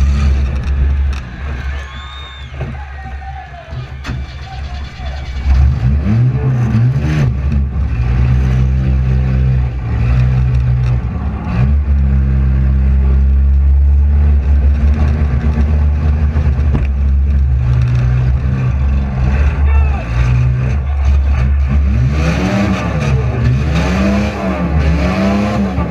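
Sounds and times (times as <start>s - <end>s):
car engine revving hard: 0.0s - 1.6s, 5.2s - 25.9s.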